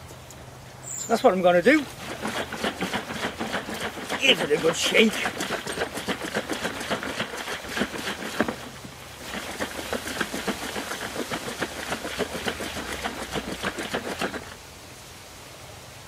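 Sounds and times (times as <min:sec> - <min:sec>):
liquid sloshing in plastic container: 0:01.7 - 0:14.6.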